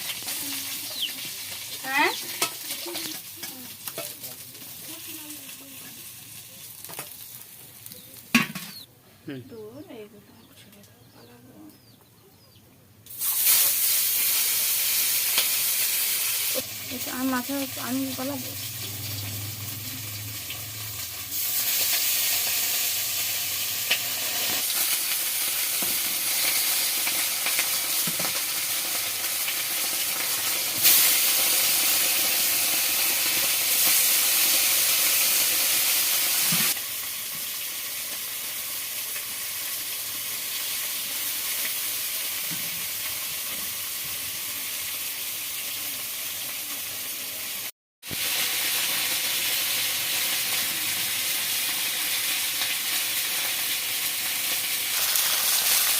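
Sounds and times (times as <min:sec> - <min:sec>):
fish sizzling in hot oil: 0:00.0 - 0:08.9, 0:13.1 - 0:55.9.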